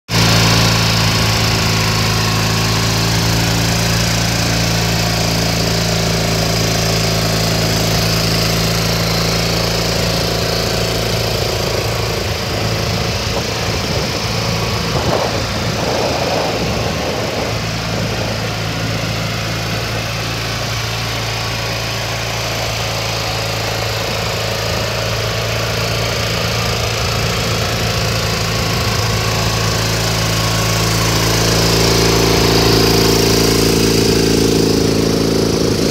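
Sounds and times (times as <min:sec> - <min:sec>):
mower engine idling: 0:00.1 - 0:35.9.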